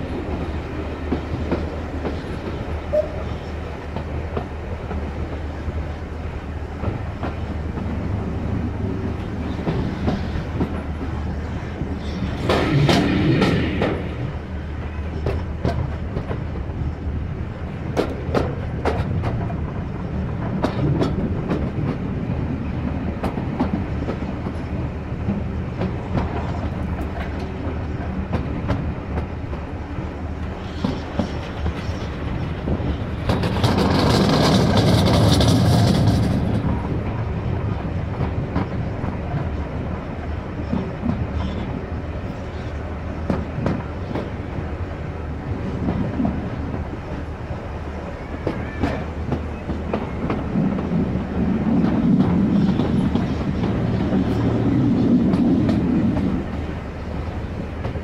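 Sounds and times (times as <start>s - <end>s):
rail joint clicks: 0.0s - 58.0s
train wheels rumbling on rail: 0.0s - 58.0s.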